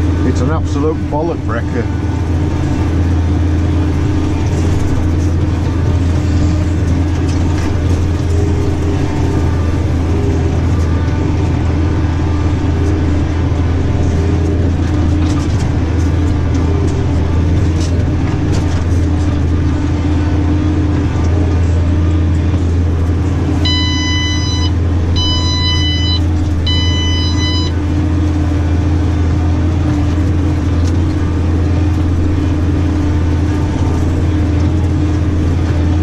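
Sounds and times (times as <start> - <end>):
tractor engine droning: 0.0 - 36.0.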